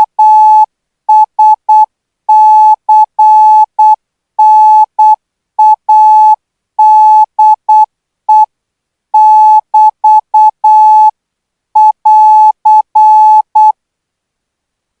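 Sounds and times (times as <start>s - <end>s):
morse code beeps: 0.0s - 8.5s, 9.2s - 11.1s, 11.8s - 13.8s.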